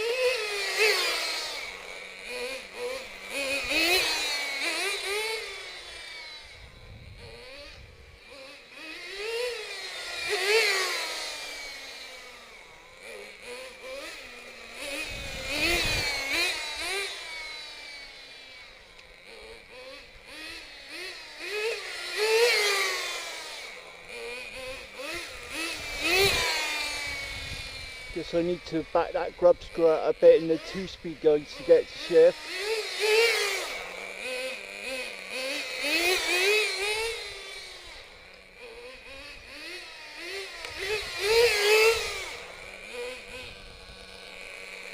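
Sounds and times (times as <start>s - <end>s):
rc car engine revving: 0.0s - 44.9s.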